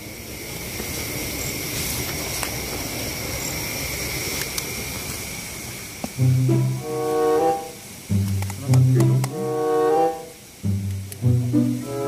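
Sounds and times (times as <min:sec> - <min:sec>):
constant rushing hiss: 0:00.0 - 0:12.0
night insects trilling: 0:00.0 - 0:12.0.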